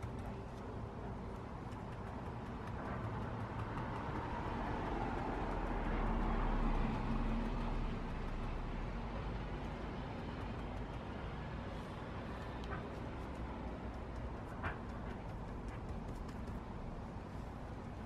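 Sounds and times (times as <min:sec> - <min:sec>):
steady rumbling noise: 0:00.0 - 0:18.0.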